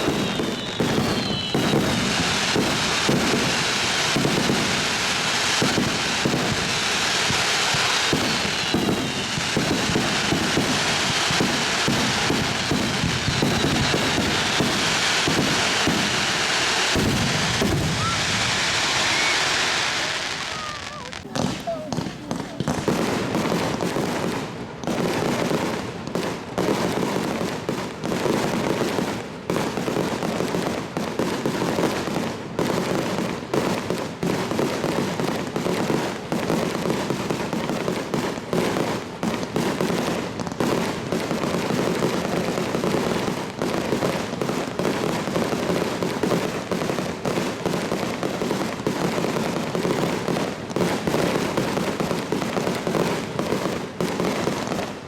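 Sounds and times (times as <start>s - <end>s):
fireworks bursts and bangs: 0.0s - 55.0s
fireworks crackling: 0.0s - 55.0s.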